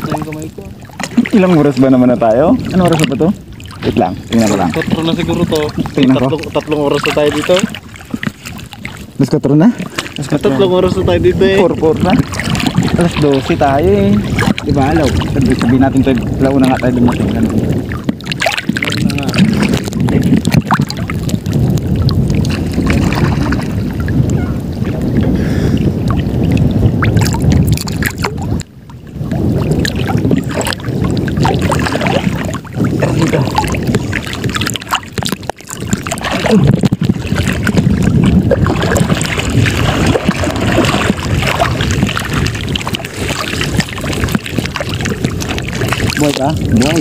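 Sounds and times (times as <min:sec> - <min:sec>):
water sloshing and splashing: 0:00.0 - 0:47.0
wind buffeting microphone: 0:00.0 - 0:47.0.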